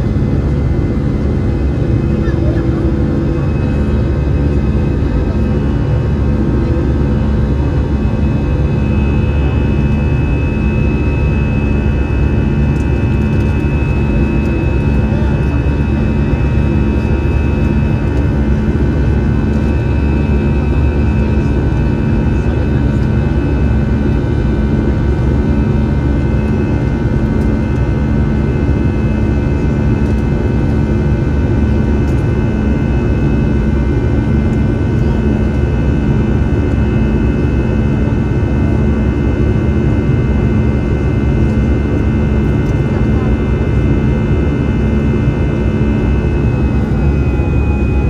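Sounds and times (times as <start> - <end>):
jet engines rumbling in cabin: 0.0 - 48.0
steady whining tones: 0.0 - 48.0.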